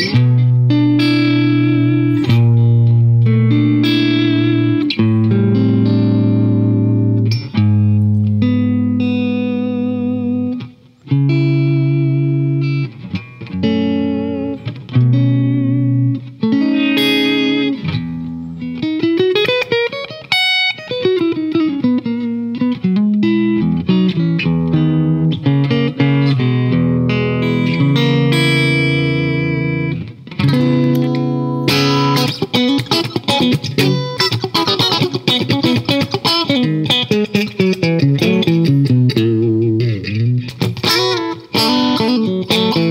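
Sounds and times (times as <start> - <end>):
electric guitar playing: 0.0 - 42.9.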